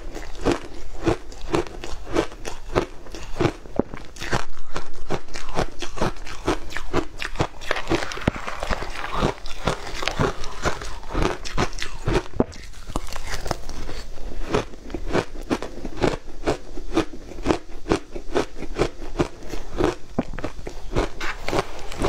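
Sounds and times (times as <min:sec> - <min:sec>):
ice crunching between teeth: 0:00.0 - 0:22.0.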